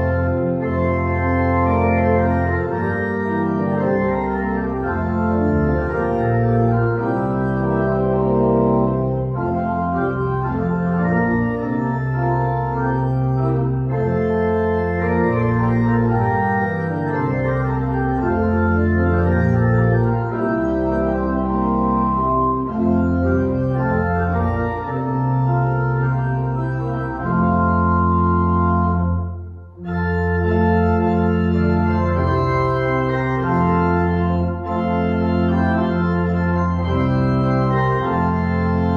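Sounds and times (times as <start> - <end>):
church organ chords: 0.0 - 38.9.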